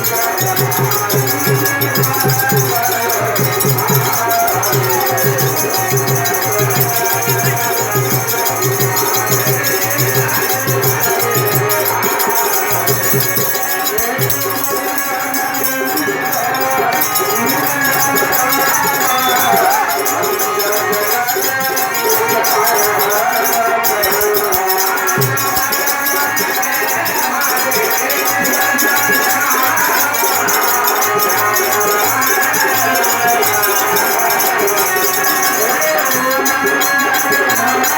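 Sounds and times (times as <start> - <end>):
rattling shaker percussion: 0.0 - 37.9.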